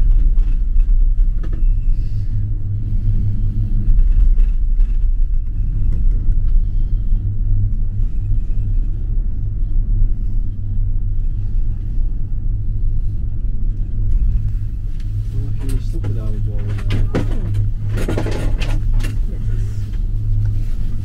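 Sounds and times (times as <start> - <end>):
gondola cabin rumble: 0.0 - 21.0.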